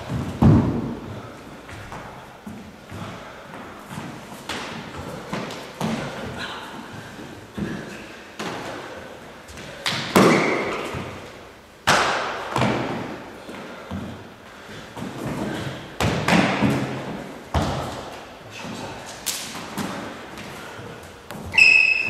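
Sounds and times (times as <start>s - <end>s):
thuds echoing in a hall: 0.0s - 3.3s, 3.9s - 8.9s, 9.6s - 21.6s.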